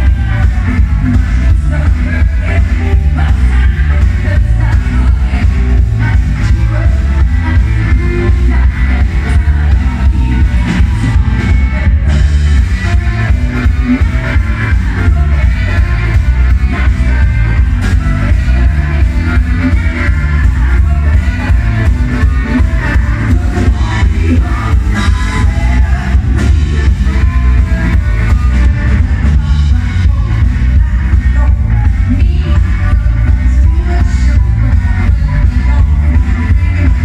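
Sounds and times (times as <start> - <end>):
bass guitar: 0.0 - 37.0
drum kit: 0.0 - 37.0
live rock band: 0.0 - 37.0
person singing: 0.0 - 37.0.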